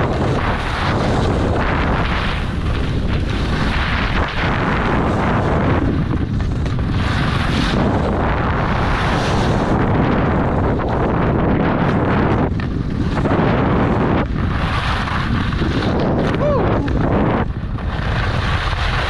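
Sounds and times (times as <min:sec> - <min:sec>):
skis scraping over snow: 0:00.0 - 0:19.0
wind buffeting microphone: 0:00.0 - 0:19.0.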